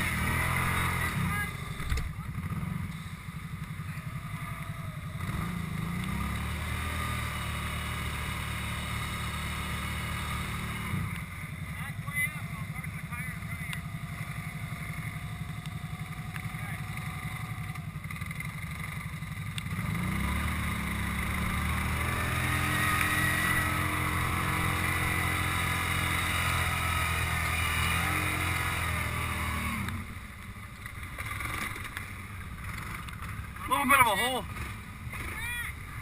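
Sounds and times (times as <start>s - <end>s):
atv engine revving: 0.0s - 36.0s.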